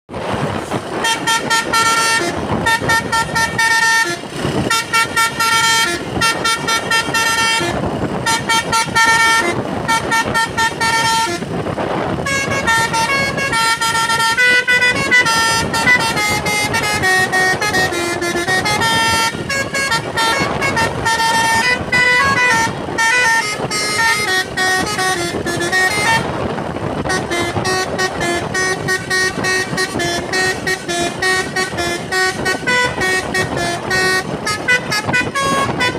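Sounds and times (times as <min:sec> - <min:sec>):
musical truck horn playing a tune: 0:00.2 - 0:35.9.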